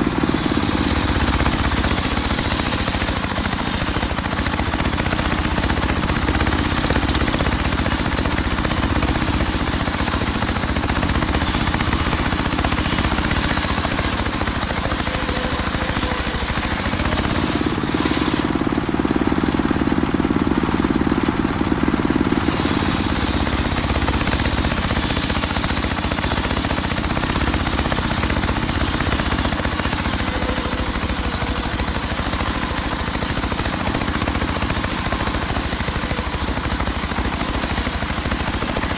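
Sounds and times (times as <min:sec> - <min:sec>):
circular sawmill ripping a log: 0:00.0 - 0:38.9.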